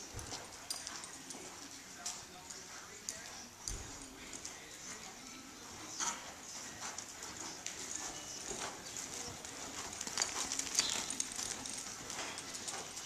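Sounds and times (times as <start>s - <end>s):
hoofbeats on sand: 0.0s - 13.0s.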